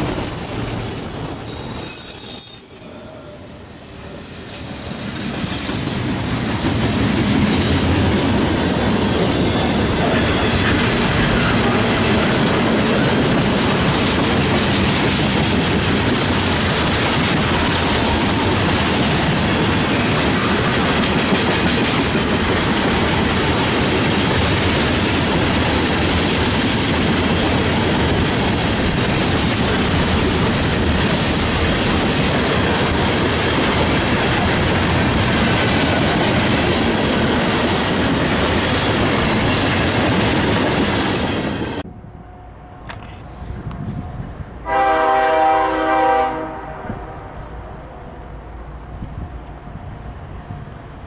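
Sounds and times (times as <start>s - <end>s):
train wheels on rails: 0.0s - 42.0s, 42.6s - 51.0s.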